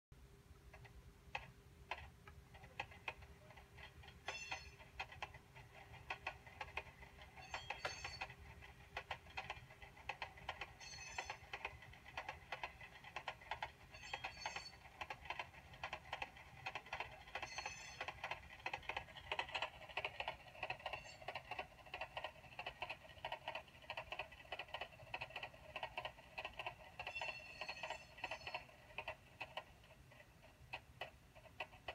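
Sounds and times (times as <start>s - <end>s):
clickety-clack of train wheels: 0.7s - 31.9s.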